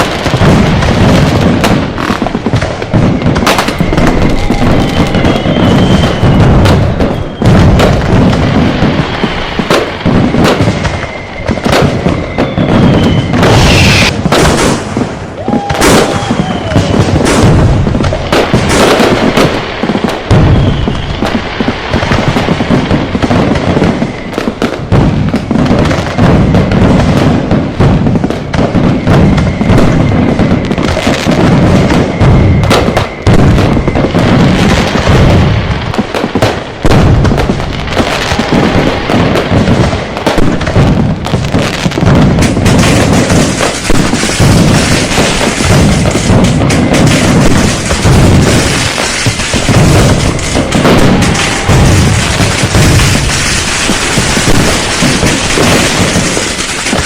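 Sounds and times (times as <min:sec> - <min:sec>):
firecracker bangs: 0:00.0 - 0:57.0
whistling fireworks: 0:00.0 - 0:57.0.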